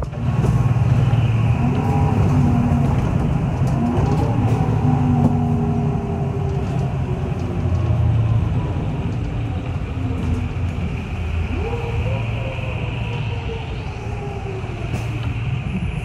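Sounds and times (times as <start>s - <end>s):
bus engine drone: 0.0s - 16.0s
road noise: 0.0s - 16.0s.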